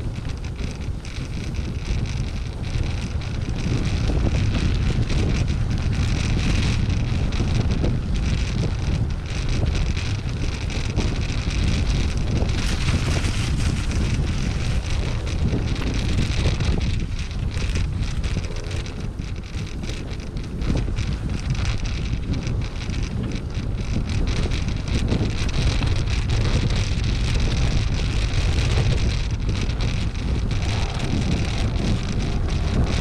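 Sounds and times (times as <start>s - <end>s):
bike tyres rolling on gravel: 0.0s - 33.0s
wind buffeting microphone: 0.0s - 33.0s.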